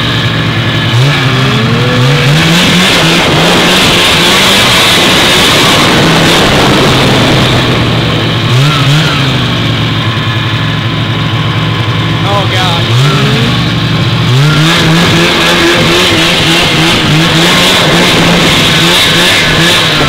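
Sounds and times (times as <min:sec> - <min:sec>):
two-stroke snowmobile engine revving: 0:00.0 - 0:20.0.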